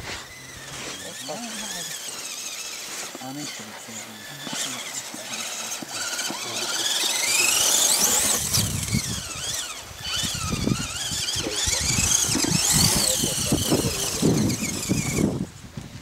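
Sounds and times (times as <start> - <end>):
toy truck motor whining: 0.0 - 15.5.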